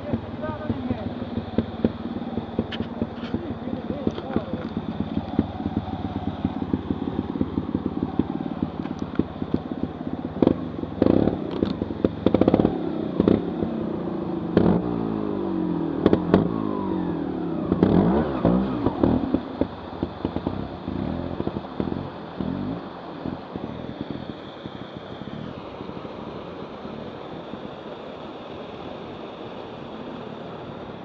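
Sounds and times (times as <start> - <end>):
motorcycle engine revving: 0.0 - 28.4.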